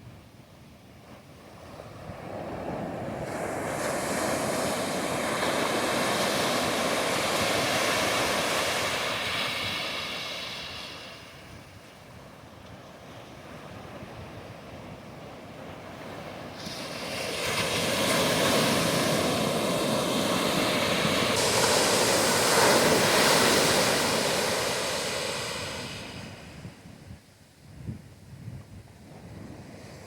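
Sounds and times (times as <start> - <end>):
ocean waves breaking on beach: 1.0 - 27.1, 29.0 - 30.0.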